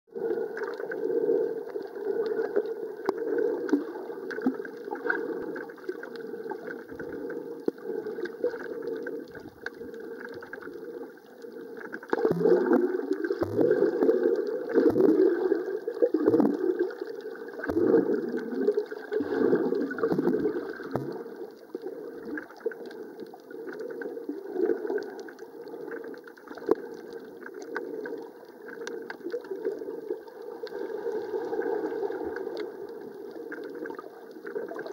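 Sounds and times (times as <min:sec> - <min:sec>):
muffled underwater rush: 0:00.1 - 0:34.9.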